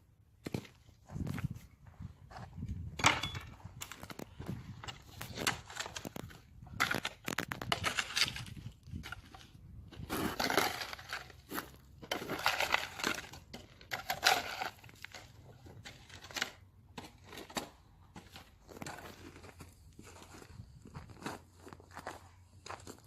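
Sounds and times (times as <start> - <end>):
soil and gravel crunching: 0.4 - 23.0.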